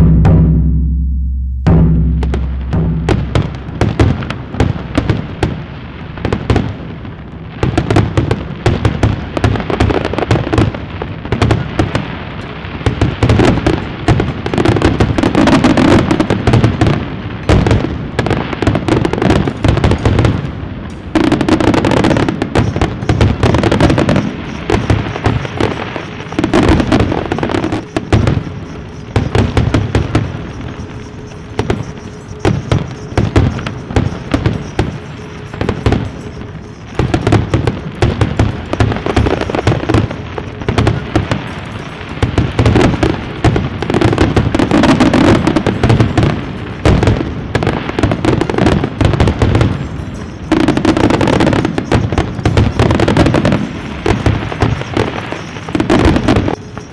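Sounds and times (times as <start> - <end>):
fireworks bangs and crackles: 0.0 - 1.0, 1.7 - 56.9.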